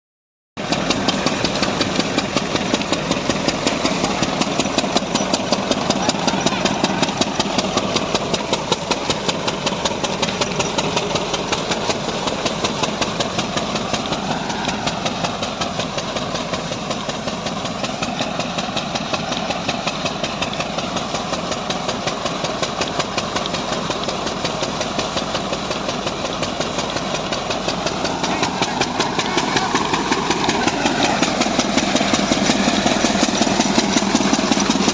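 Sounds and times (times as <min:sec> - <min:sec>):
diesel engine knocking beat: 0:00.6 - 0:34.9.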